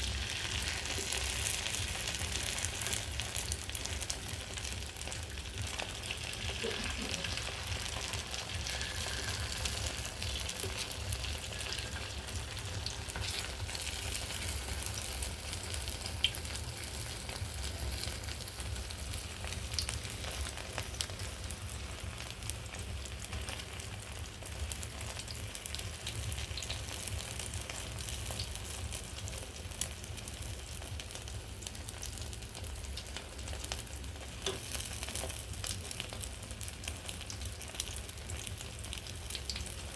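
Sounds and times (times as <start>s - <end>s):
egg sizzling in hot oil: 0.0s - 39.9s
oil crackling and popping: 0.0s - 39.9s.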